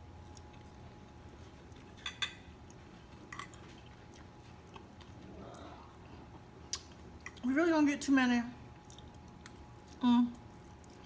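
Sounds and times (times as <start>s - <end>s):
person chewing quietly: 0.0s - 7.5s, 8.6s - 11.0s.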